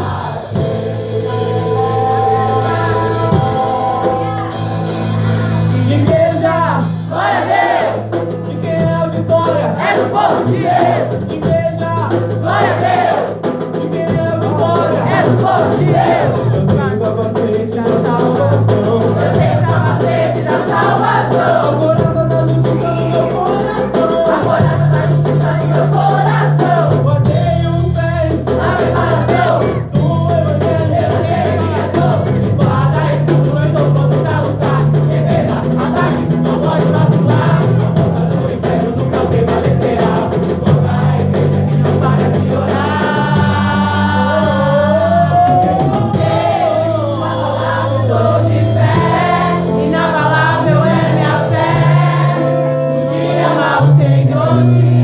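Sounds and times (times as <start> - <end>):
band accompaniment: 0.0 - 55.0
steady bass line: 0.0 - 55.0
voices singing gospel: 0.0 - 55.0.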